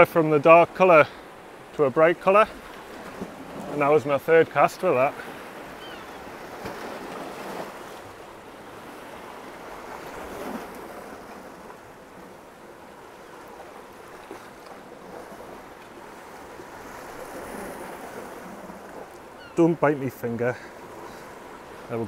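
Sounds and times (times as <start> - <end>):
surf breaking on rocks: 2.0 - 22.0.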